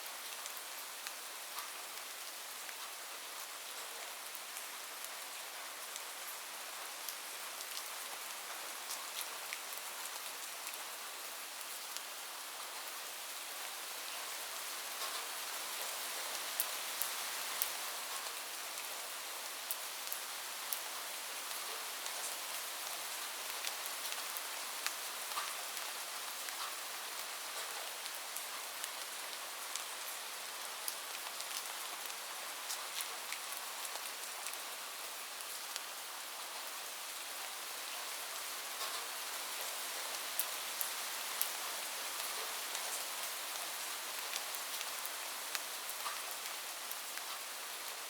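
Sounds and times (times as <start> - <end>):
rain on a roof: 0.0 - 48.0.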